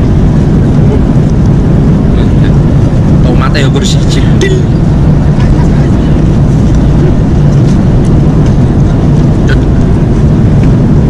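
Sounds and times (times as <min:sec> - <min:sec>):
jet engine cabin rush: 0:00.0 - 0:11.0.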